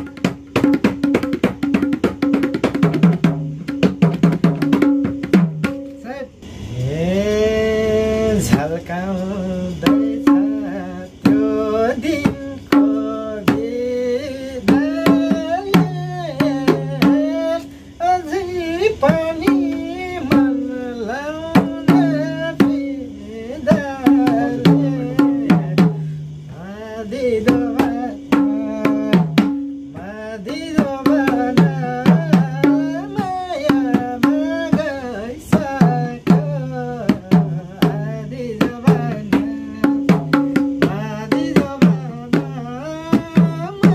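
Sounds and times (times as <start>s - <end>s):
hand drum rhythm: 0.0s - 6.0s, 9.7s - 17.7s, 18.9s - 26.5s, 27.1s - 43.9s
man singing: 5.0s - 43.9s.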